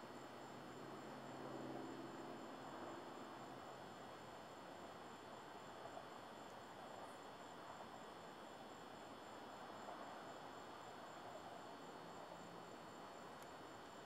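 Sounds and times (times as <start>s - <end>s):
crickets chirping: 0.0s - 14.0s
low hiss: 0.0s - 14.0s.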